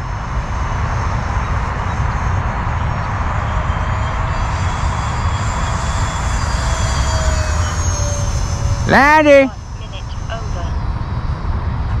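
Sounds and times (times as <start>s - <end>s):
model jet flying past: 0.0s - 12.0s.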